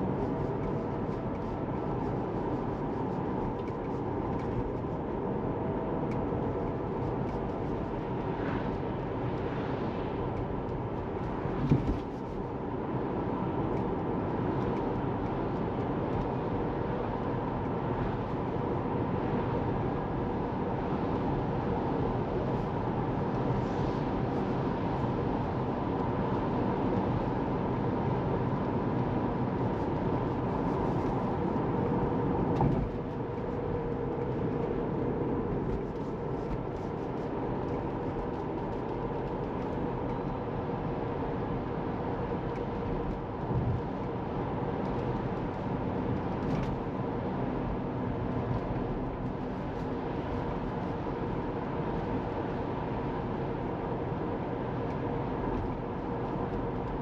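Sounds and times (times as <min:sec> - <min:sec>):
tyre and road noise hum: 0:00.0 - 0:57.0.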